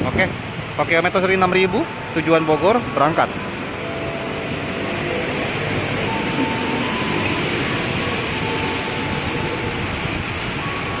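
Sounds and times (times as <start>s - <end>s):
electric train pulling out: 0.0s - 11.0s
heavy rain hissing: 0.0s - 11.0s
faint whine: 0.8s - 11.0s.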